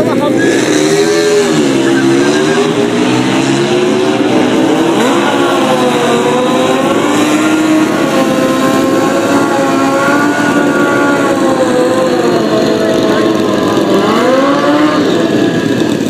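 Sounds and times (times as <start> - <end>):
motorcycle engines running loud: 0.0 - 16.0.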